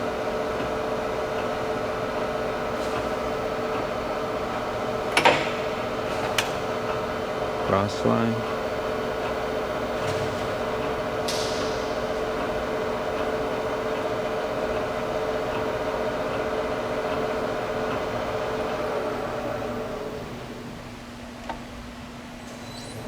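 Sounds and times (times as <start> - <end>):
lathe geared hum and whine: 0.0 - 23.0.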